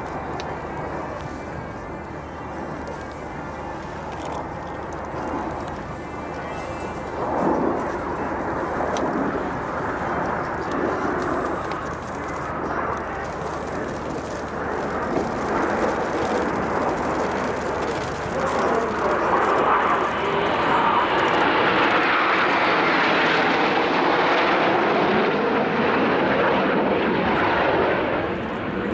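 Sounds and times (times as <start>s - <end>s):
jets flying past: 3.6s - 28.9s.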